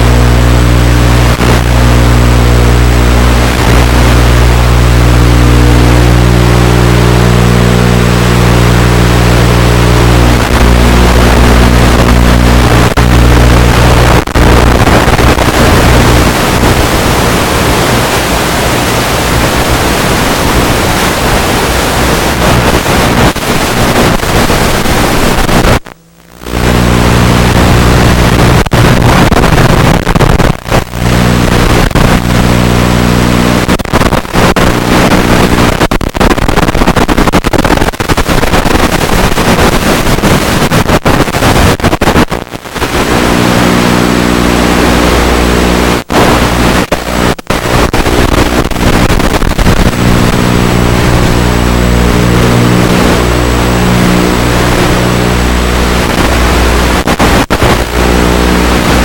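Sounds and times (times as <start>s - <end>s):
low buzzing hum: 0.0s - 59.0s.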